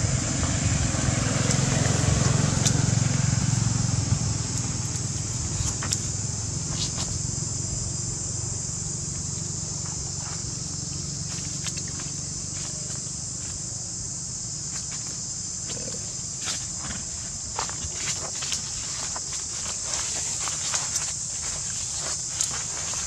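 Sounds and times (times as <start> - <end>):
vehicle engine rumble: 0.0 - 23.0
high-pitched hiss: 1.4 - 23.0.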